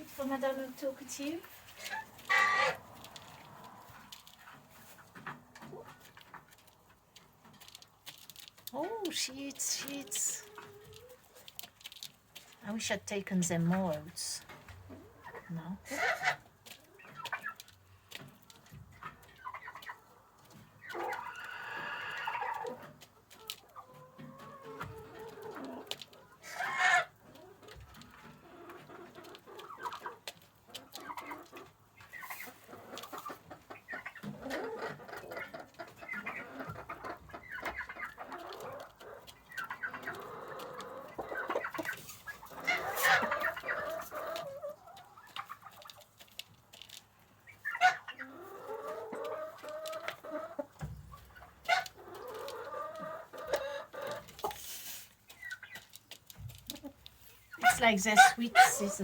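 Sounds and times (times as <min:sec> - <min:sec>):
chickens clucking and calling: 0:00.0 - 0:59.0.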